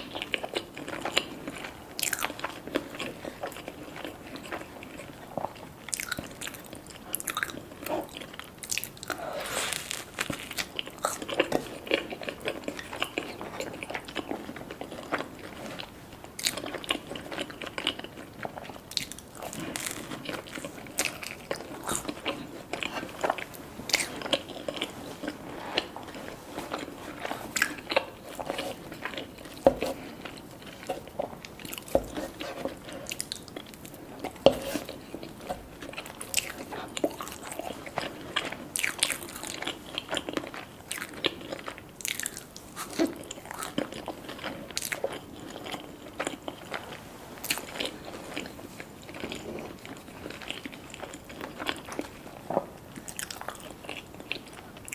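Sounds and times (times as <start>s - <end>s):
person biting and chewing food: 5.9s - 54.9s.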